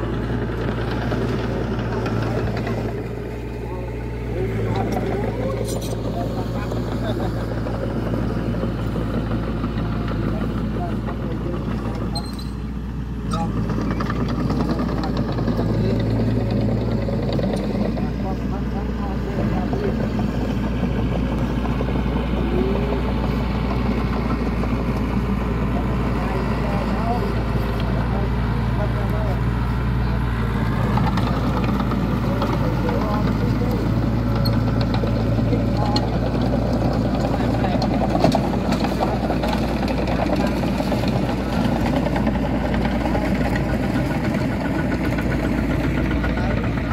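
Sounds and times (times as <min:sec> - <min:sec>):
bulldozer diesel engine running: 0:00.0 - 0:46.9
clatter of crawler tracks: 0:00.0 - 0:46.9.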